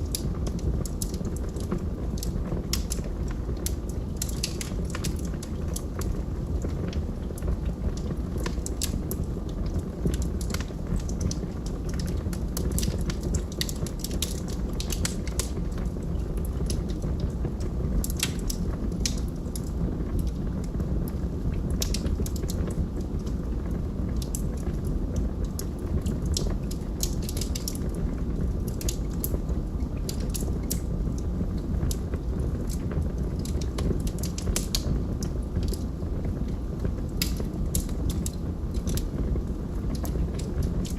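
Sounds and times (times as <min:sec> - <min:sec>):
log fire crackling and popping: 0:00.0 - 0:40.9
low rush of flame: 0:00.0 - 0:40.9.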